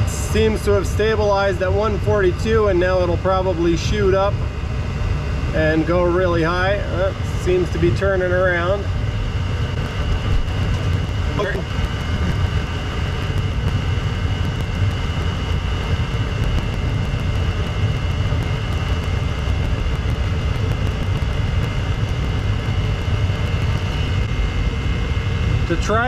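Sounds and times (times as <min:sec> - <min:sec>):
heater low rumble: 0:00.0 - 0:26.0
high whine: 0:00.0 - 0:26.0.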